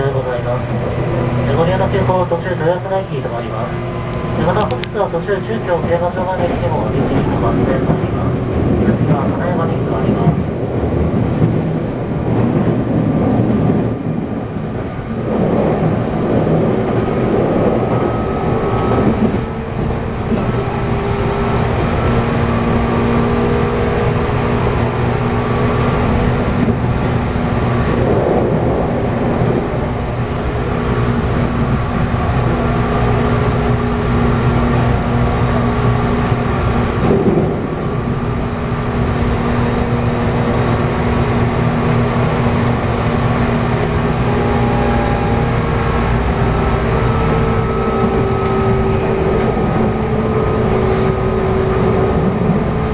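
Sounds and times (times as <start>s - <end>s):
electric train motor hum: 0.0s - 52.9s
wheel and rail rumble: 0.0s - 52.9s.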